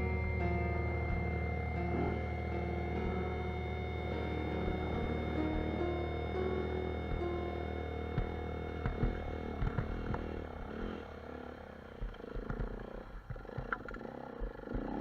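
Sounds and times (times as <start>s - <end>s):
motorcycle engine at low revs: 1.0s - 15.0s.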